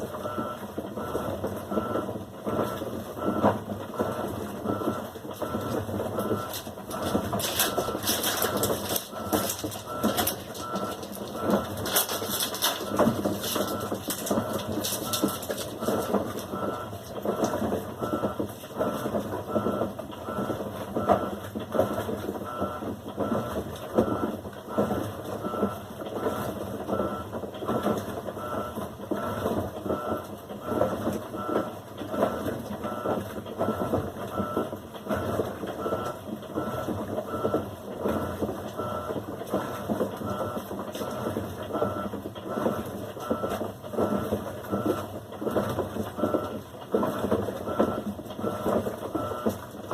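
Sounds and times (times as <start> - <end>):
washing machine churning water: 0.0 - 49.9.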